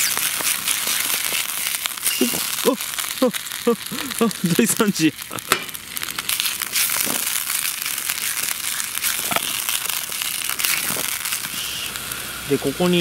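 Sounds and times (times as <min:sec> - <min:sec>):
food sizzling in butter in a pan: 0:00.0 - 0:13.0
frying pops and crackles: 0:00.0 - 0:13.0.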